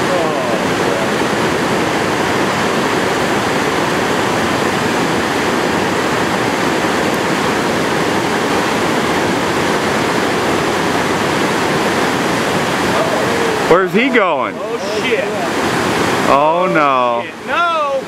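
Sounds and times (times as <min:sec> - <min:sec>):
river rapids rushing over boulders: 0:00.0 - 0:18.0.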